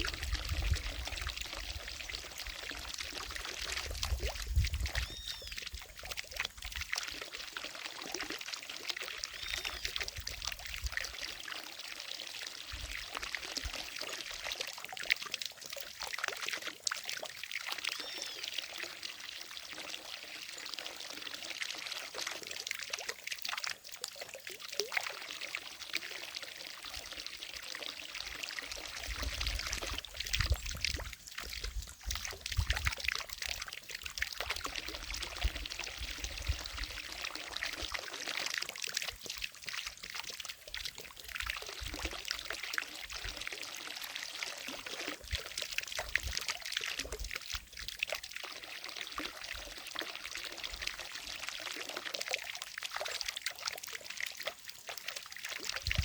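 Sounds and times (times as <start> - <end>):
fountain water splashing: 0.0 - 56.0.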